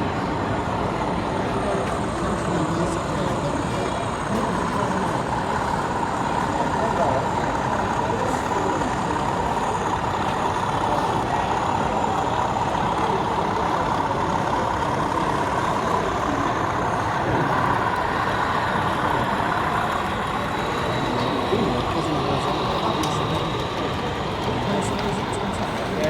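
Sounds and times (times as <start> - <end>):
exhibition hall hubbub: 0.0 - 26.0.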